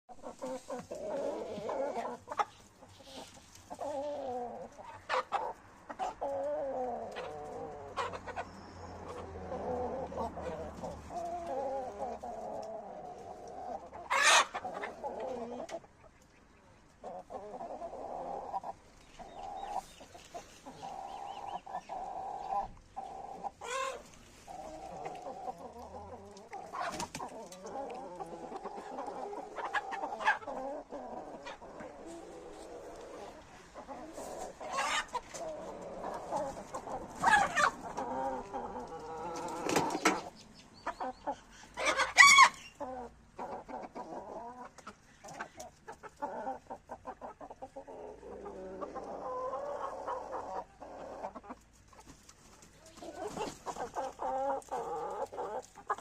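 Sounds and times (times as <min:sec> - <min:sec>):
chickens clucking: 0:00.1 - 0:56.0.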